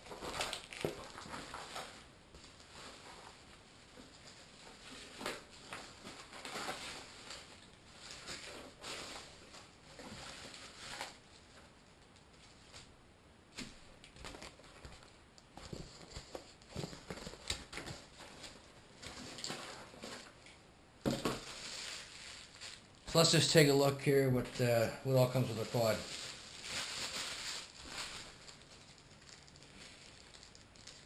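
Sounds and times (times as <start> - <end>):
packaging rustling and crinkling: 0.0 - 12.9, 13.6 - 31.0.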